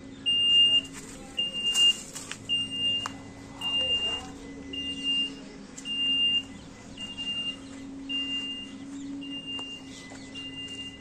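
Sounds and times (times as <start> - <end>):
bus engine idling: 0.0 - 11.0
electronic warning beeper: 0.2 - 11.0.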